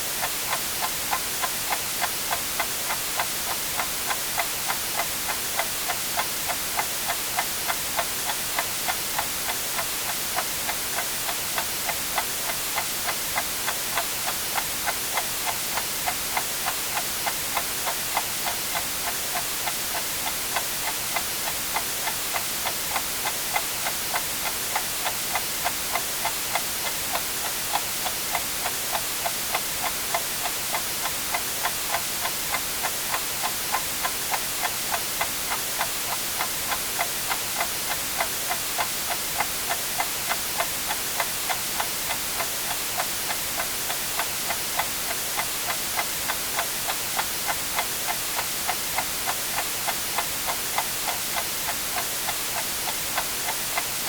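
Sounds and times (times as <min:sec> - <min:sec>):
white-noise hiss: 0:00.0 - 0:54.0
clock ticking: 0:00.2 - 0:54.0.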